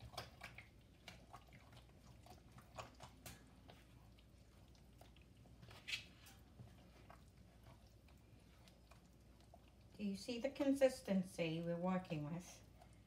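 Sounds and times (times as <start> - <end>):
batter squelching in bowl: 0.0 - 13.0.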